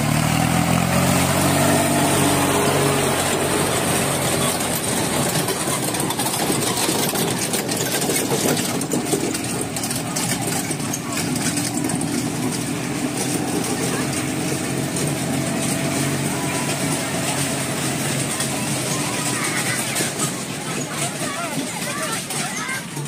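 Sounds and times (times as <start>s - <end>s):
people's voices: 0.0s - 23.0s
small tractor engine running: 0.0s - 23.0s.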